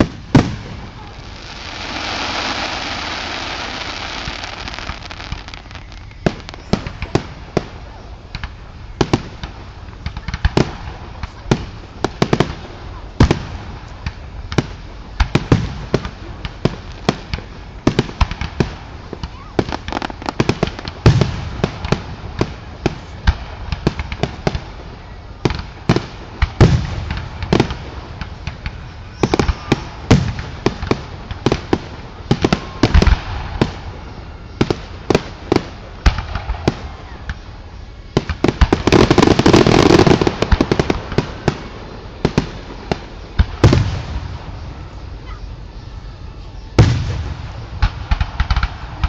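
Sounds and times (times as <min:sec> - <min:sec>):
fireworks bangs and pops: 0:00.0 - 0:45.5, 0:46.6 - 0:49.0
fireworks crackling: 0:00.0 - 0:49.0.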